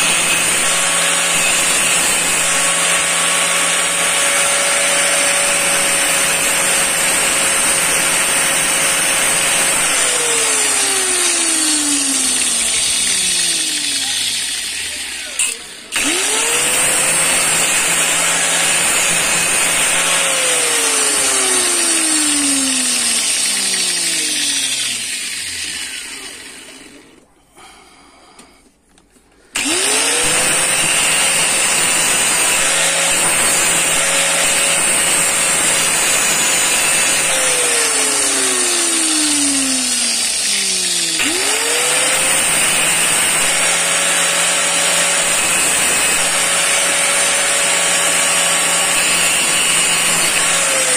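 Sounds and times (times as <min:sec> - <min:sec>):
angle grinder whining: 0:00.0 - 0:27.7, 0:29.5 - 0:50.9.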